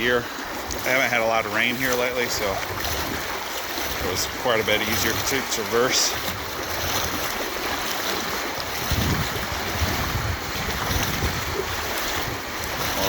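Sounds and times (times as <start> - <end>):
water rushing and splashing: 0.0 - 13.0
wind rumbling on microphone: 0.0 - 13.0.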